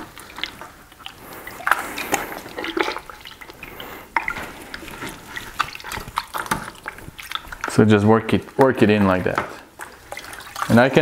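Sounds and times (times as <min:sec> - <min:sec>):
foam filter squelching in liquid: 0:00.0 - 0:11.0
liquid splashing: 0:00.0 - 0:11.0.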